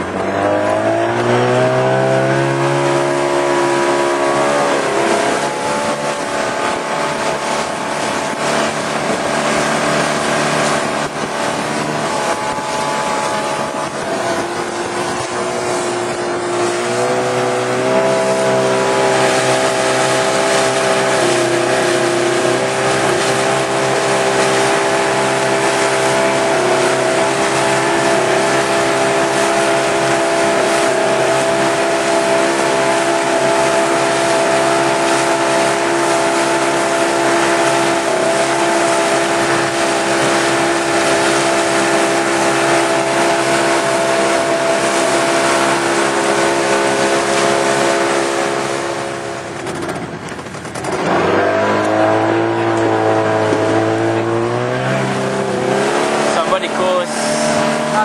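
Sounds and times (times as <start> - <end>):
outboard motor running: 0.0 - 58.0
steady rushing noise: 0.0 - 58.0.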